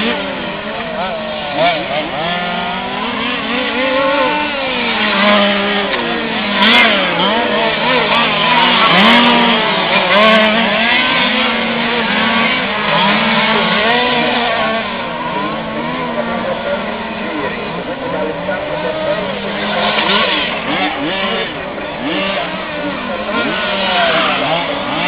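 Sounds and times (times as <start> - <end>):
small two-stroke engines racing: 0.0 - 25.0.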